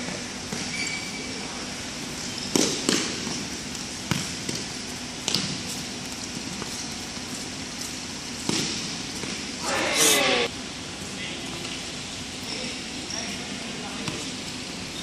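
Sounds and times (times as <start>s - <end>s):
background noise of large hall: 0.0s - 15.0s.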